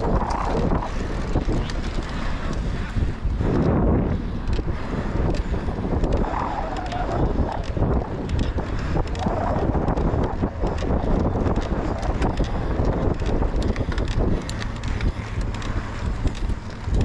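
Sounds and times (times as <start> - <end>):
bike clicking and rattling: 0.0 - 17.0
bike tyres rumbling on dirt: 0.0 - 17.0
wind buffeting microphone: 0.0 - 17.0.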